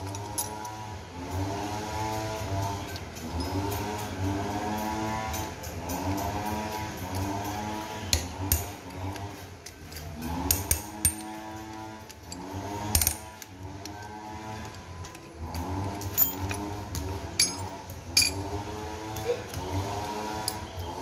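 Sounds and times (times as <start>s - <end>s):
metal tools clicking on bolts: 0.0s - 1.4s, 2.2s - 21.0s.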